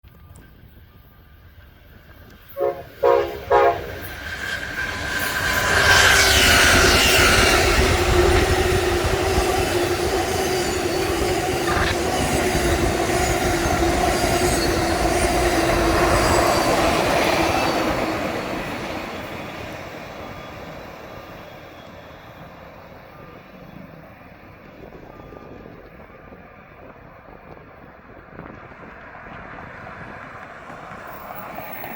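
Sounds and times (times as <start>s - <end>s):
diesel train passing: 0.2s - 31.9s.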